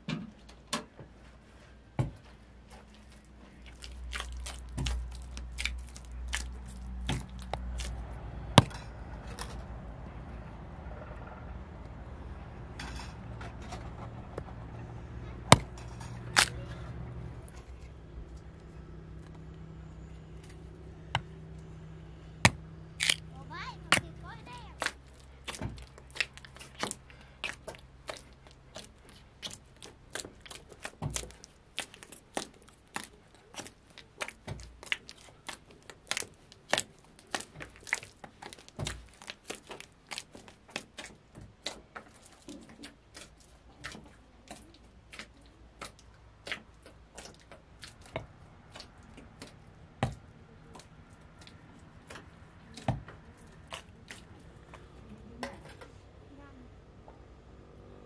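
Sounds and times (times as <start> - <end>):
hands kneading wet dough: 1.1 - 10.4, 11.9 - 58.0.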